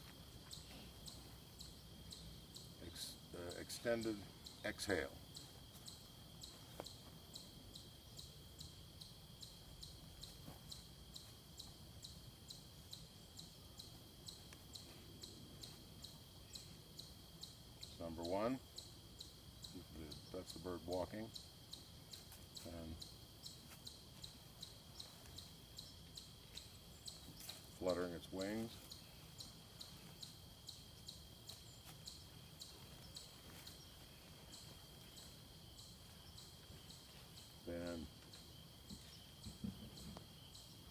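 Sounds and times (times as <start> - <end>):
high-pitched insect trill: 0.0 - 40.9
insect chirping: 0.0 - 40.9.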